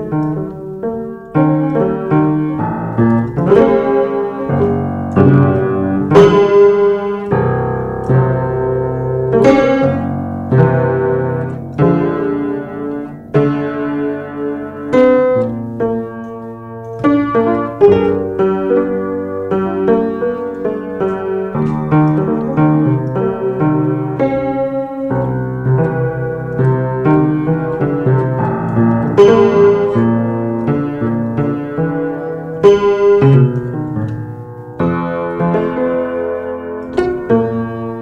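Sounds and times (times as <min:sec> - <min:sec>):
piano notes and chords: 0:00.0 - 0:38.0.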